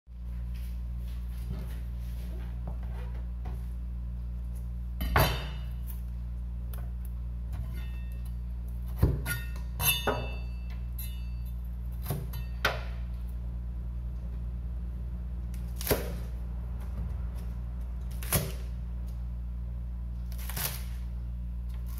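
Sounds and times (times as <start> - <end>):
steady low hum: 0.1 - 21.9.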